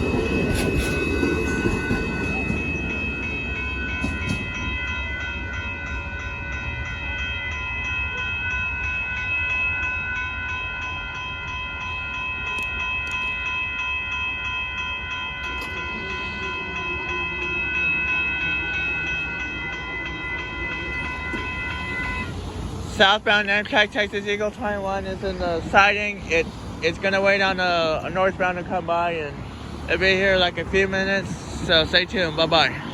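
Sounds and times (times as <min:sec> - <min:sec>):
crossing bell ringing: 0:00.0 - 0:32.9
train rumbling: 0:00.0 - 0:32.9.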